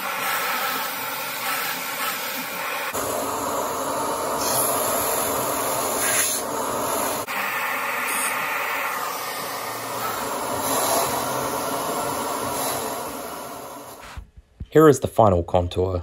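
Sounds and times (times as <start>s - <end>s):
shop vacuum running: 0.0s - 14.2s.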